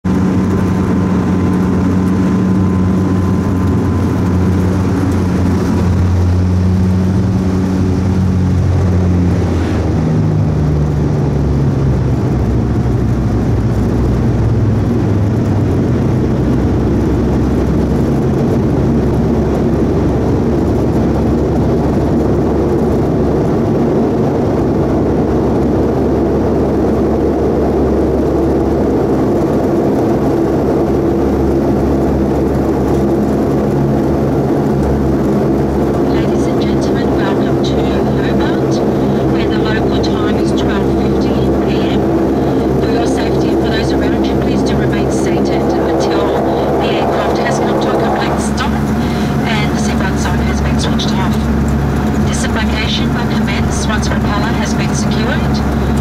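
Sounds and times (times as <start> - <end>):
turboprop engine and propeller drone: 0.0 - 56.0.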